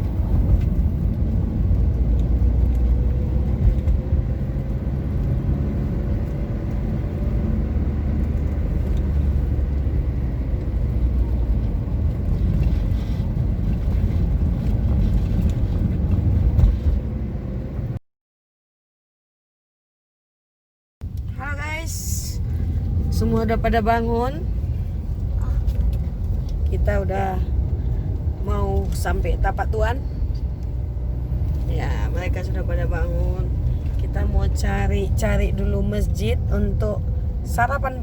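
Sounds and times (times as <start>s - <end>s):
car engine and road noise: 0.0s - 18.0s, 21.0s - 38.0s.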